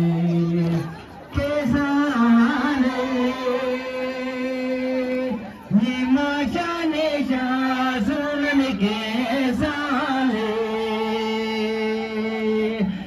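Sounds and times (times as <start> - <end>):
voices singing a melody: 0.0 - 13.0.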